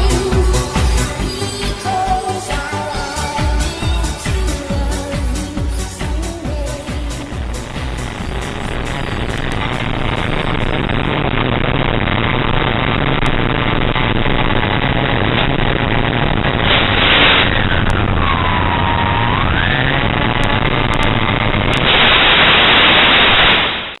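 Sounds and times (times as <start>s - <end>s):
static hiss: 0.0s - 18.3s, 19.2s - 24.0s.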